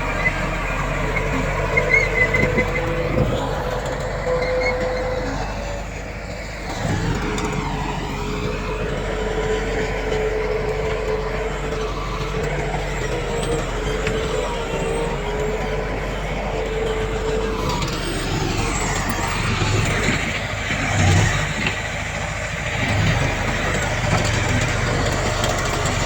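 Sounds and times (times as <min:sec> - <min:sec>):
constant whine: 0:00.0 - 0:26.0
diesel engine running: 0:00.0 - 0:26.0.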